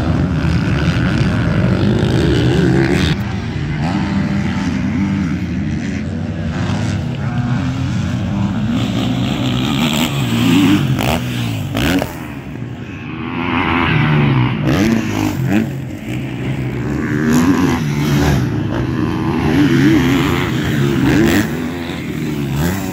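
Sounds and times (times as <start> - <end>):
dirt bike engines revving: 0.0 - 22.9.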